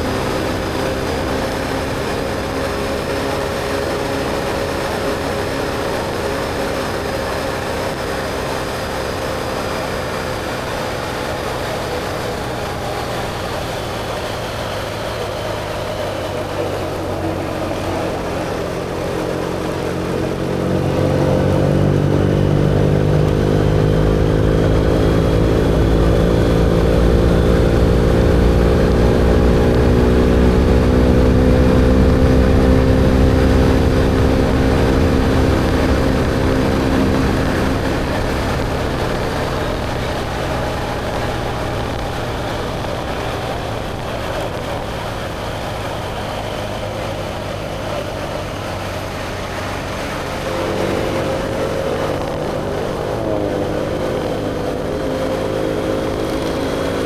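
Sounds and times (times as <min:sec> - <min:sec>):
motorcycle engine and exhaust: 0:00.0 - 0:57.0
wind and road noise: 0:00.0 - 0:57.0.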